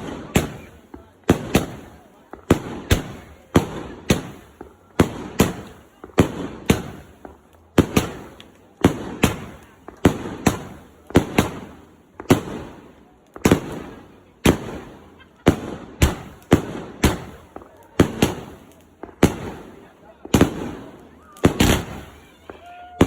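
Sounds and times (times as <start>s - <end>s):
fireworks banging: 0.0s - 23.0s.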